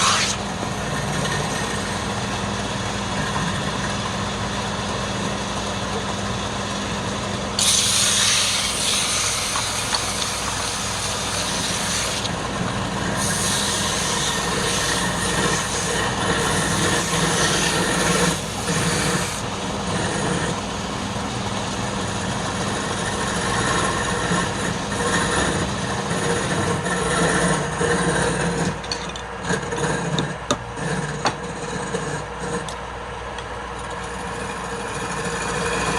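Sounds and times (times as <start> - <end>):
tool scraping spinning wood: 0.0 - 32.9, 33.6 - 35.9
lathe motor humming: 0.0 - 35.9.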